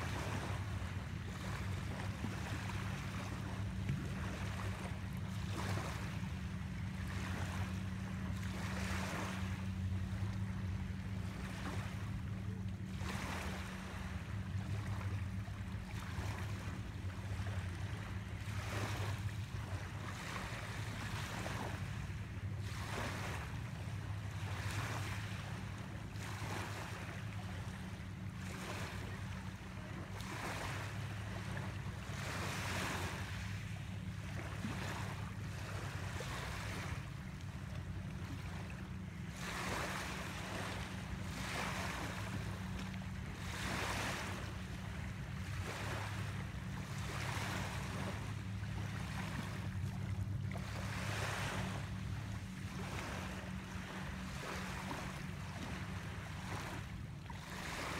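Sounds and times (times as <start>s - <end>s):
steady low hum: 0.0s - 57.9s
waves lapping against shore: 0.0s - 57.9s.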